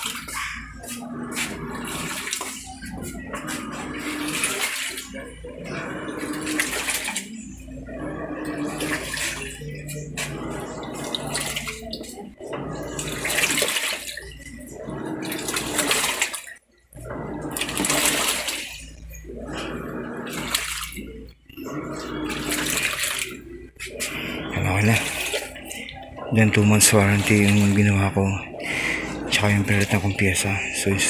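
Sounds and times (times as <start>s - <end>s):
washing machine motor hum: 0.0s - 31.0s
water and clothes sloshing: 0.0s - 31.0s.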